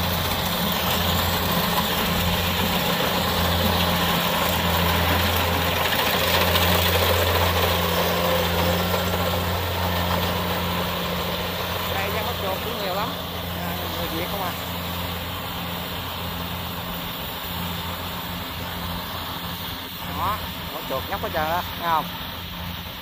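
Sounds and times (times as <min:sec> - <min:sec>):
combine harvester diesel engine: 0:00.0 - 0:23.0.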